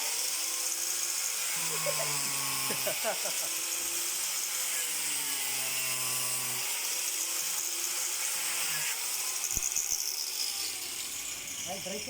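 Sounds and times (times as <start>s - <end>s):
angle grinder cutting: 0.0s - 12.0s.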